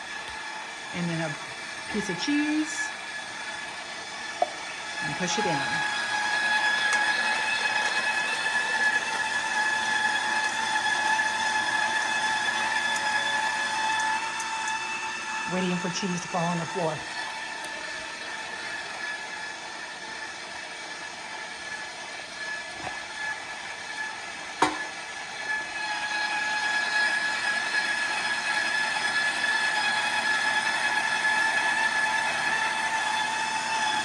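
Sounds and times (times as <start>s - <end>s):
stand mixer motor whining: 0.0s - 34.0s.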